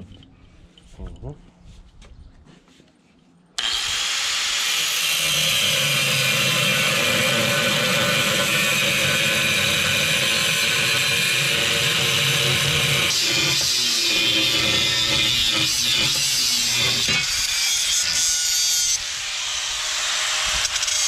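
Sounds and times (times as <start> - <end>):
angle grinder grinding steel: 3.6 - 21.0.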